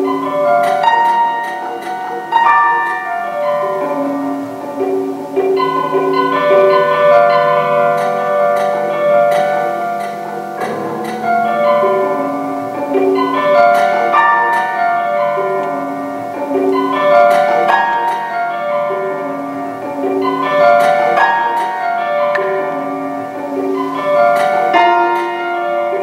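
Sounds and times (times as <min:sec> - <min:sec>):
prepared piano notes: 0:00.0 - 0:26.0.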